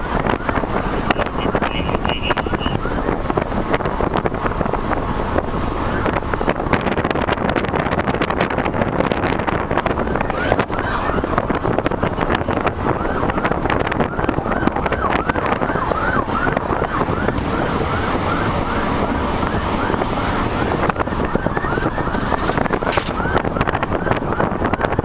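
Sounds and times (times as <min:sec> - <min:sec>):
police siren yelping: 0:00.0 - 0:04.8, 0:05.7 - 0:06.5, 0:09.5 - 0:25.0
wind buffeting microphone: 0:00.0 - 0:25.0.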